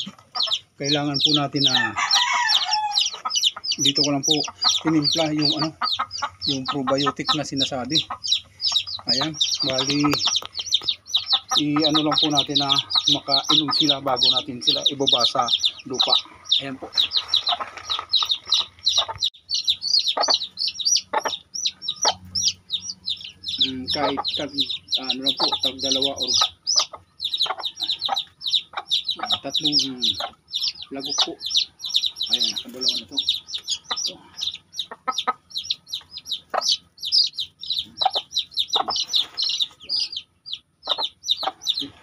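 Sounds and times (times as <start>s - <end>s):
chicks peeping: 0.0s - 42.0s
hen clucking: 0.0s - 42.0s.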